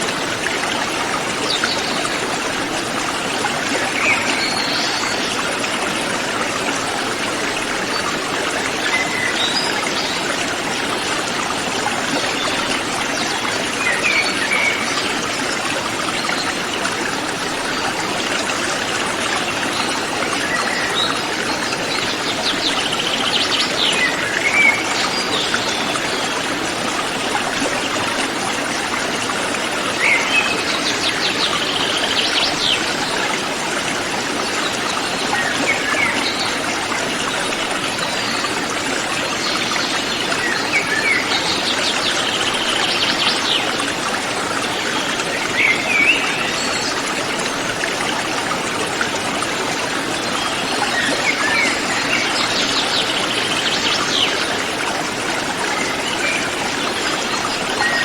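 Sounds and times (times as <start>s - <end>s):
river stream flowing: 0.0s - 58.0s.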